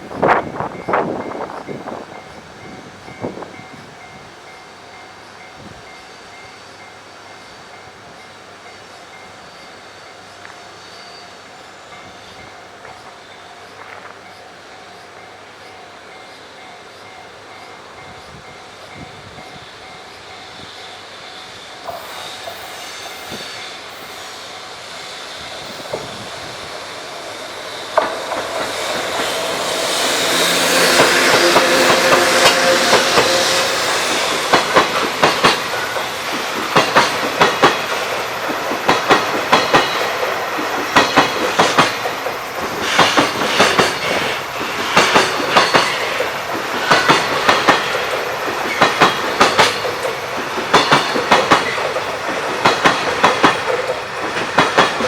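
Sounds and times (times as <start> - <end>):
electric locomotive whine: 0.0 - 55.0.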